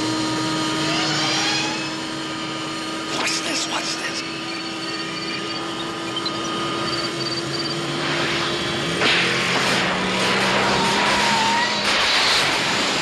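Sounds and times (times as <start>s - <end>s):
car engine speeding closer: 0.0s - 11.3s.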